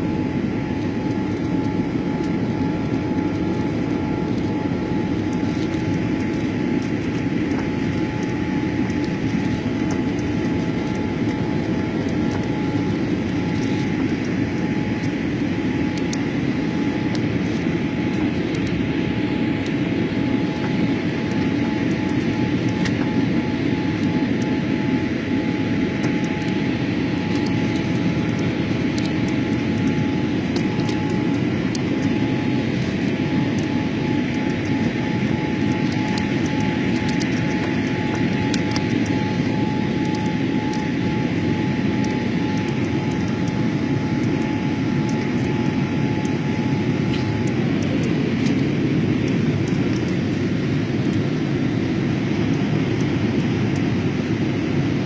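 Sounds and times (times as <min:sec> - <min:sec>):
jet engines roaring in cabin: 0:00.0 - 0:55.0
thin steady whine: 0:00.0 - 0:55.0.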